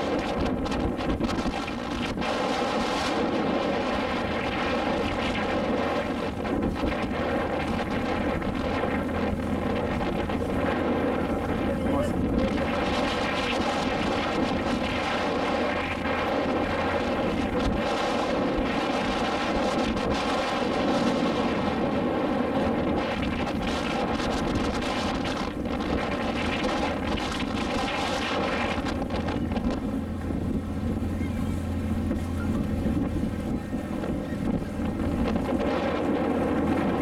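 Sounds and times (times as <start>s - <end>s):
motorboat engine droning: 0.0s - 37.0s.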